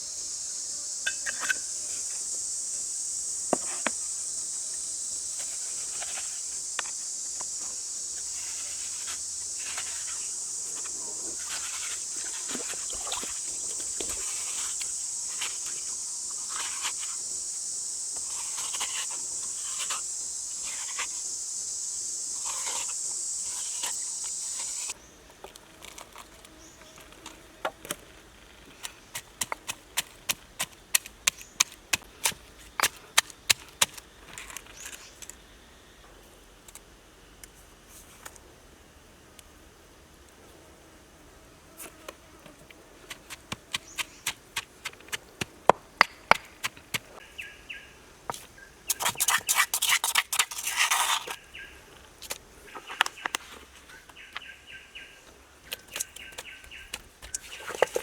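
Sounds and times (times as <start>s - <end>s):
insects chorus: 0.0s - 37.4s, 40.6s - 58.0s.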